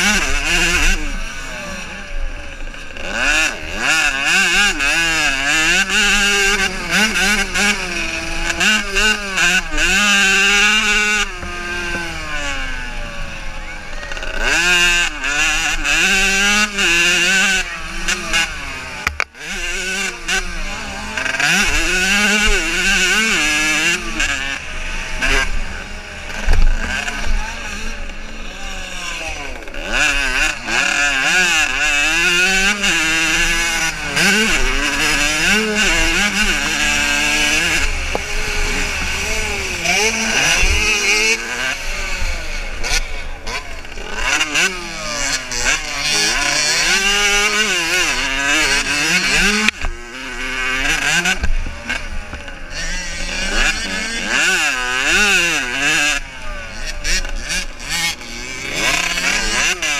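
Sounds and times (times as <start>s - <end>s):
motocross bikes revving past: 0.0s - 59.9s.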